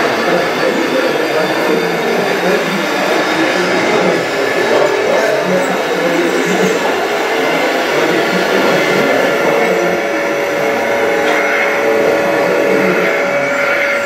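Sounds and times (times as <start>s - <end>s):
toy truck motor whine: 0.0s - 14.0s.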